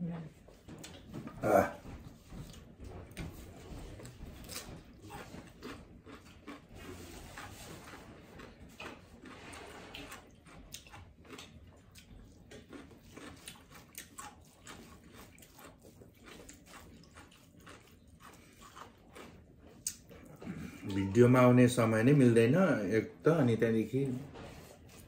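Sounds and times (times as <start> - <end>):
person chewing: 0.6 - 21.4.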